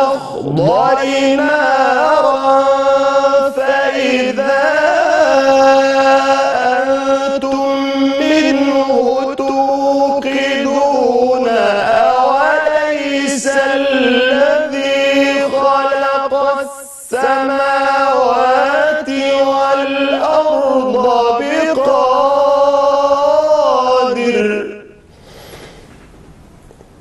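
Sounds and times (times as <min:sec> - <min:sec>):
man reciting melodically: 0:00.0 - 0:25.1.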